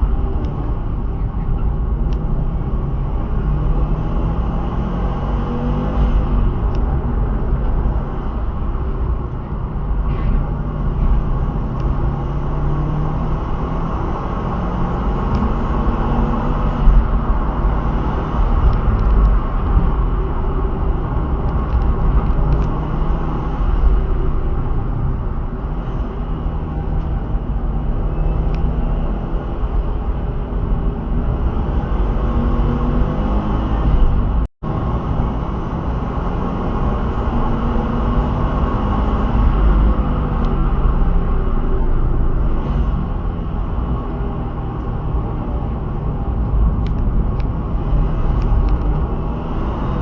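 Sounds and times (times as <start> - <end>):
car engine rumbling: 0.0 - 50.0
road and wind noise: 0.0 - 50.0.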